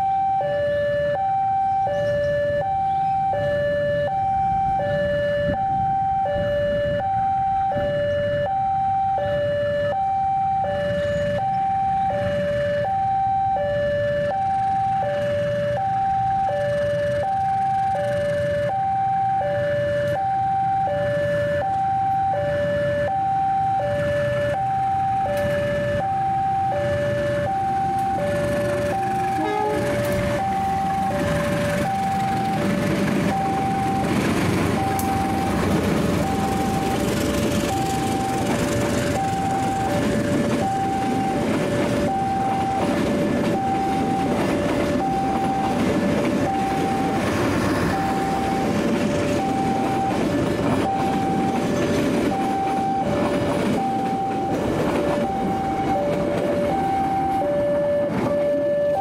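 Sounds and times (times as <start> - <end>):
level crossing two-tone alarm: 0.0 - 59.0
locomotive rumble: 0.0 - 59.0.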